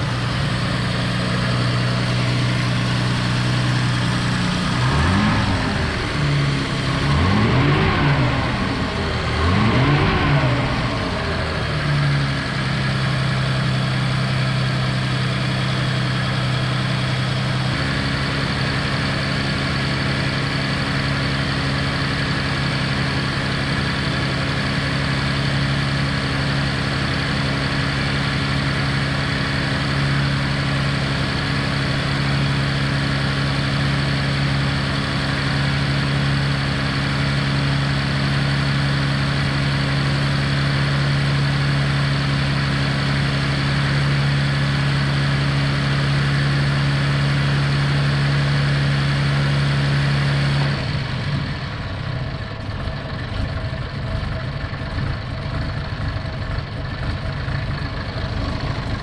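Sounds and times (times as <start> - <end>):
engine fast idling: 0.0 - 59.0.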